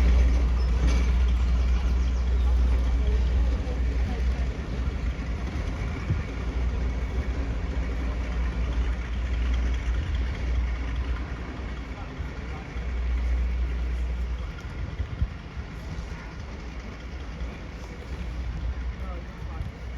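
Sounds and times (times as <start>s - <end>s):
faint voices: 0.0s - 19.9s
locomotive engines idling: 0.0s - 19.9s.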